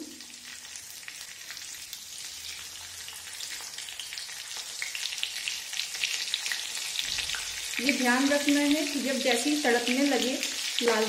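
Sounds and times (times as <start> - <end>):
spices sizzling and crackling in oil: 0.0 - 11.0.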